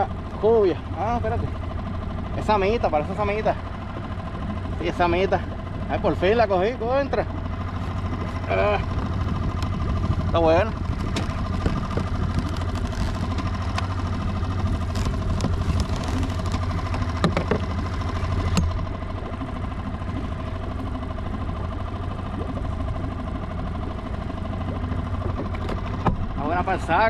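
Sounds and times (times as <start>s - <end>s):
outboard motor idling: 0.0s - 27.0s.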